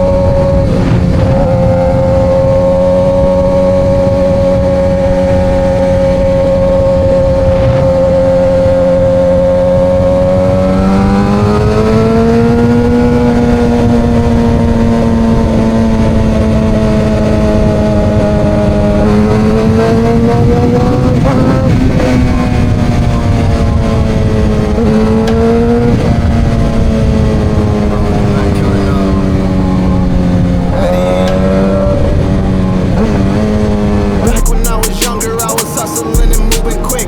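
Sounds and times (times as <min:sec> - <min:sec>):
wind noise: 0:00.0 - 0:34.3
motorcycle engine revving: 0:00.0 - 0:37.0.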